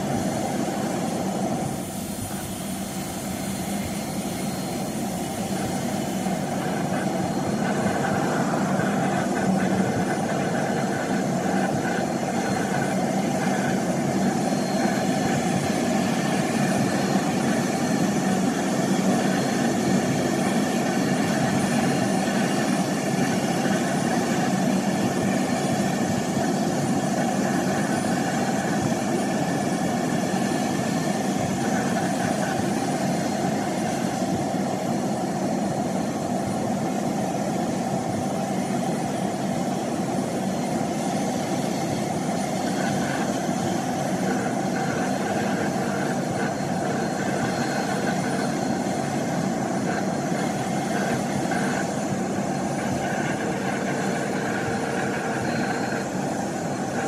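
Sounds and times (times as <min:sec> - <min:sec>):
faint high whining tones: 0:00.0 - 0:57.0
helicopter engine and rotor drone: 0:00.0 - 0:57.0.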